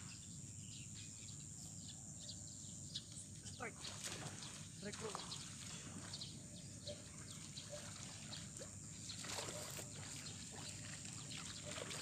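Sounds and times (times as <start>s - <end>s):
small chirps and ticks: 0.0s - 12.0s.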